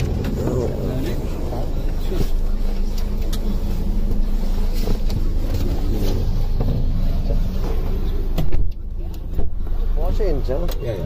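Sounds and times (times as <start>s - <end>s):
car cabin engine and road rumble: 0.0s - 11.0s.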